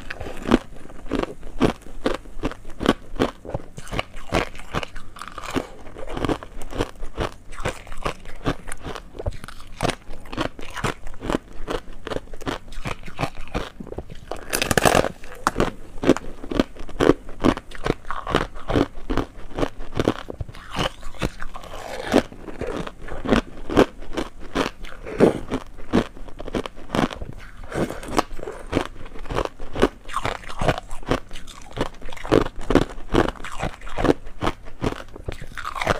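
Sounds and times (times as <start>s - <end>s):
ice being chewed: 0.0s - 35.9s.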